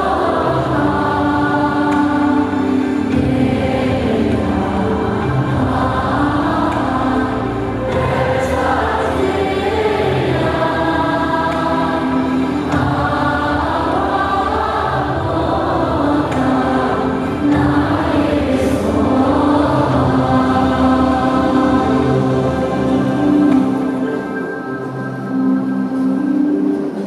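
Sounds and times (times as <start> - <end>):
choir singing slow melody: 0.0 - 27.0.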